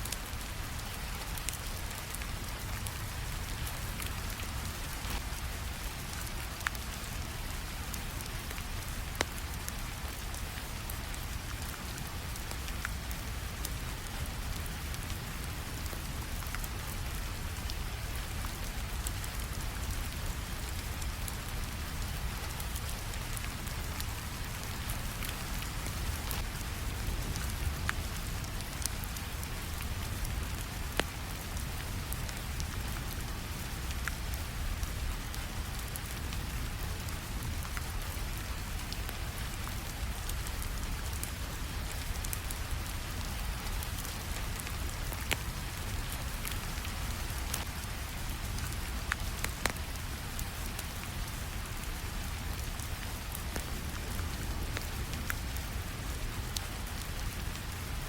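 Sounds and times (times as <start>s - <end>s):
steady rainfall: 0.0s - 58.0s
wood fire crackles: 0.0s - 58.0s.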